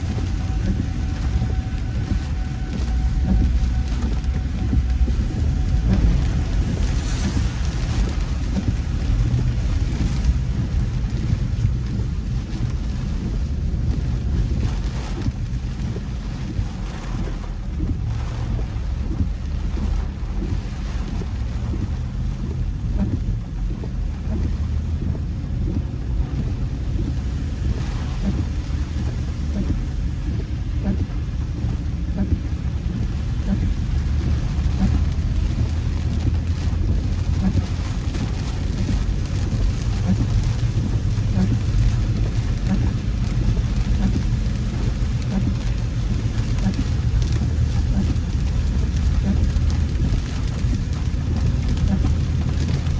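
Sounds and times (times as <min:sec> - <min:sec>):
rain hissing: 0:00.0 - 0:52.9
wind and road noise: 0:00.0 - 0:52.9.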